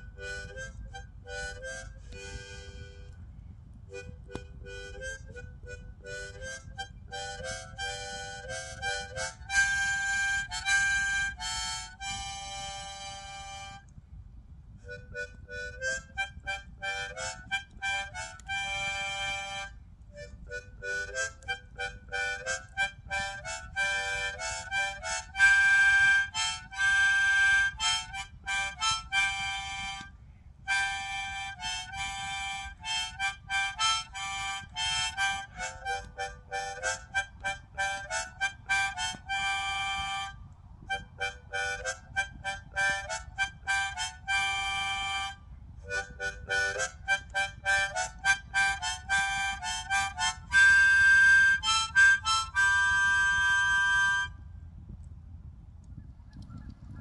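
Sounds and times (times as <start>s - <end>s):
harmonica playing: 0.0s - 3.2s, 3.9s - 13.9s, 14.8s - 54.4s.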